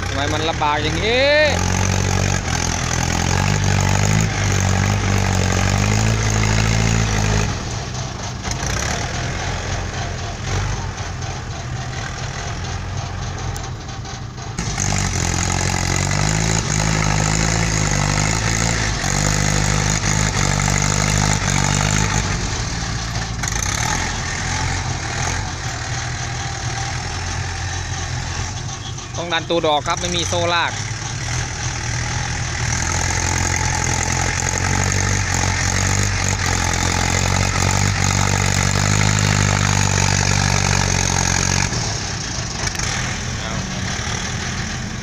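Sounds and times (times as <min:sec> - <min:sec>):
heavy diesel engines under load: 0:00.0 - 0:45.0.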